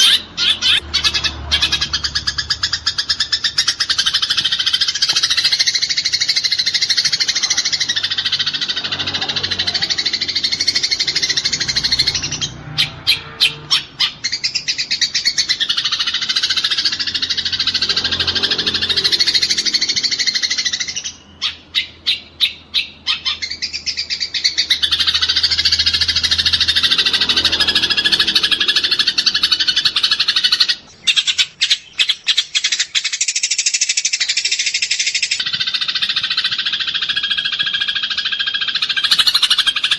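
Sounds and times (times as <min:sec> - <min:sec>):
sparrows chirping chatter: 0:00.0 - 0:39.9.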